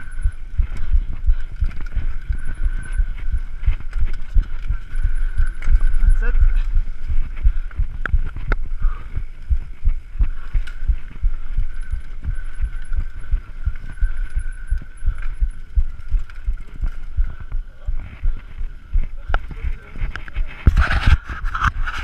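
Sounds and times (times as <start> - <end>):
mountain bike rattling on dirt trail: 0.0 - 21.8.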